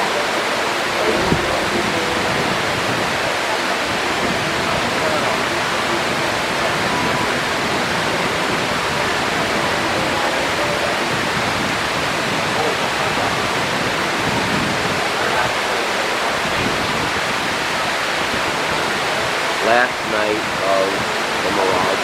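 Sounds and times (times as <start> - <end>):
waterfall rushing into lagoon: 0.0 - 22.0.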